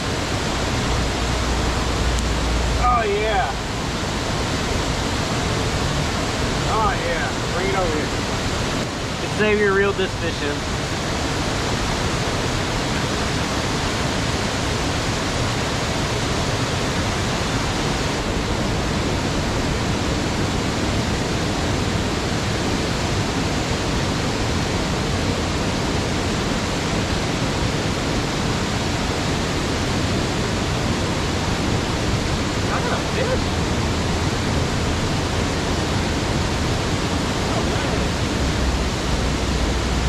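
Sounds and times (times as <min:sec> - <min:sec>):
water rushing over rocks: 0:00.0 - 0:40.0.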